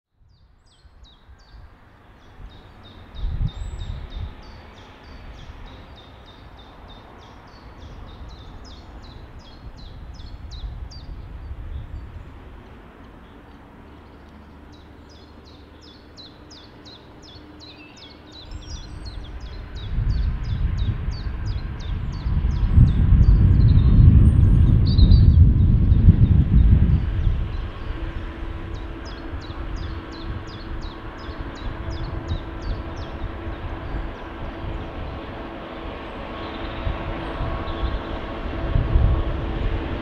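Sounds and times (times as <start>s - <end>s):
diesel locomotive engine rumble: 1.3s - 40.0s.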